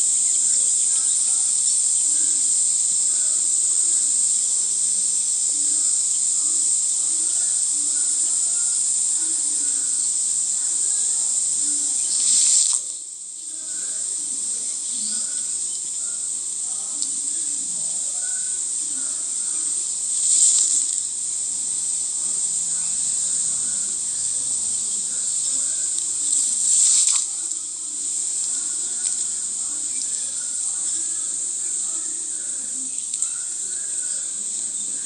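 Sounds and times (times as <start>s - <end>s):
insects chirring in grass: 0.0s - 35.0s.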